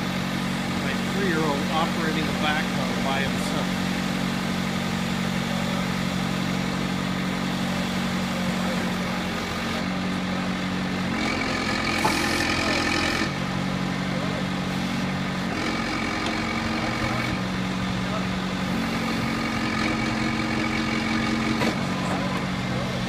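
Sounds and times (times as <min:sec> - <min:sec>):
diesel engine idling and revving: 0:00.0 - 0:23.0.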